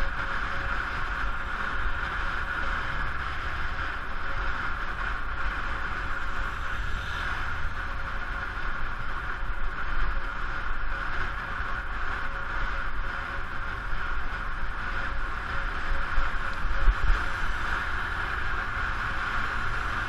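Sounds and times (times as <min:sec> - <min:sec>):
faint steady whine: 0:00.0 - 0:20.0
wind rushing over microphone: 0:00.0 - 0:20.0.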